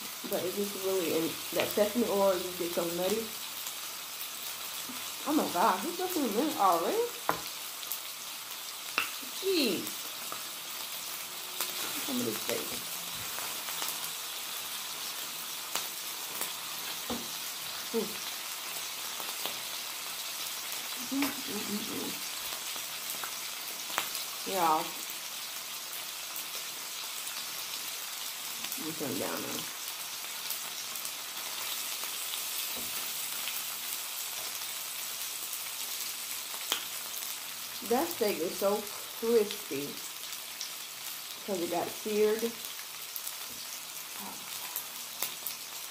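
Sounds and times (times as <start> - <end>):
food sizzling on a griddle: 0.0 - 45.9.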